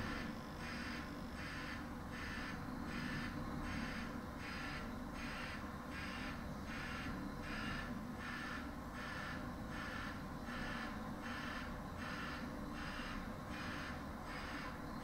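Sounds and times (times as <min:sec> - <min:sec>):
reversing alarm beeping: 0:00.0 - 0:15.0.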